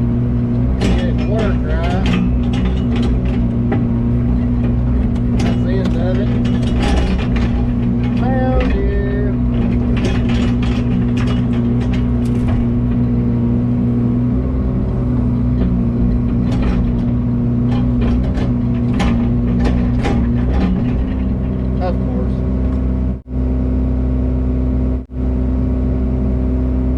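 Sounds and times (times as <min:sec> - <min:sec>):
metallic clanks and rattles: 0:00.0 - 0:23.2
heavy diesel engine running: 0:00.0 - 0:26.9.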